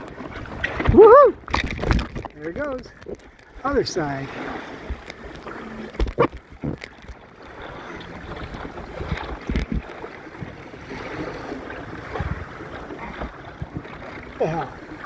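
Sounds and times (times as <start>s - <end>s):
water splashing along a hull: 0.0s - 15.0s
wind: 0.0s - 15.0s.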